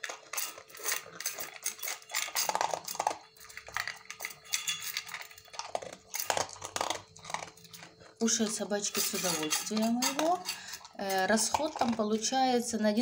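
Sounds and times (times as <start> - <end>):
dog crunching dry kibble: 0.0 - 13.0
kibble clinking against metal bowl: 0.0 - 13.0.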